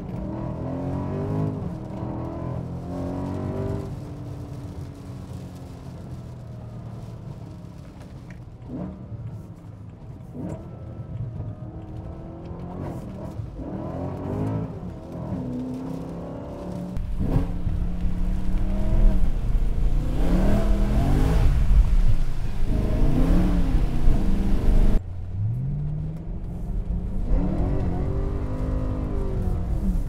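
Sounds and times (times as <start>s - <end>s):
car engine revving: 0.0s - 6.1s, 10.2s - 30.0s.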